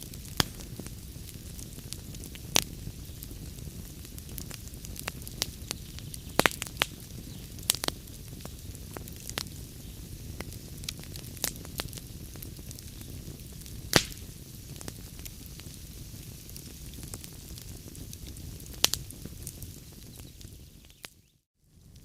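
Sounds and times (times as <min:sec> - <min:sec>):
wood fire crackling: 0:00.0 - 0:21.1.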